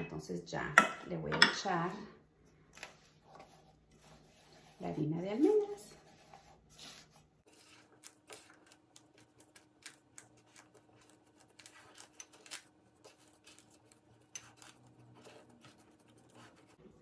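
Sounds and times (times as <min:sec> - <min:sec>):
hands kneading dough: 0:02.6 - 0:17.0.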